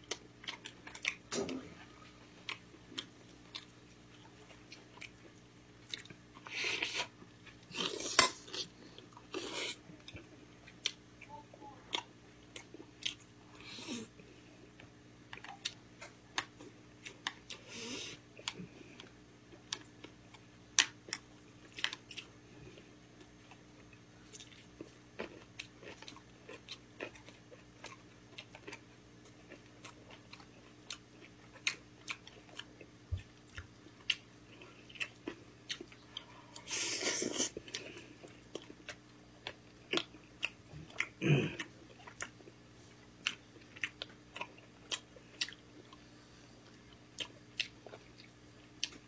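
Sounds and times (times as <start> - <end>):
faint low hum: 0.0 - 49.0.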